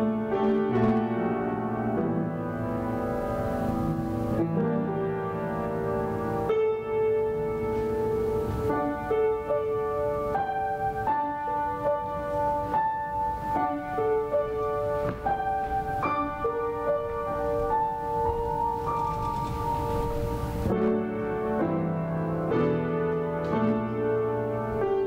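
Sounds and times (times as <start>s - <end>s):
slow piano-like keyboard music: 0.0s - 25.0s.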